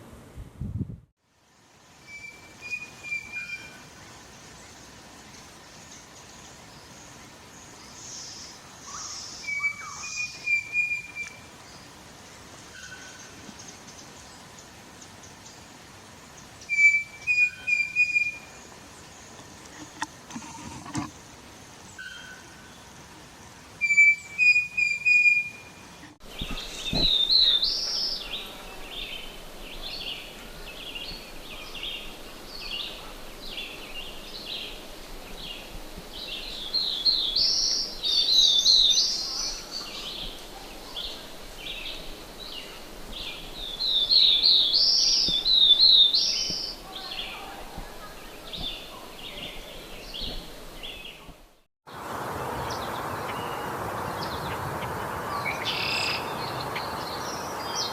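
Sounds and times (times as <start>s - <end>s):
songbird singing: 1.6s - 57.9s.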